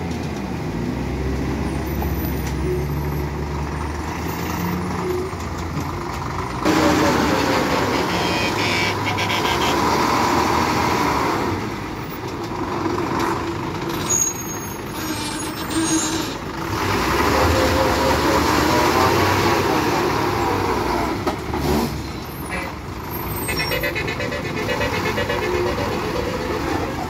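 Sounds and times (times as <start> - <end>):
diesel truck engine under load: 0.0 - 27.0.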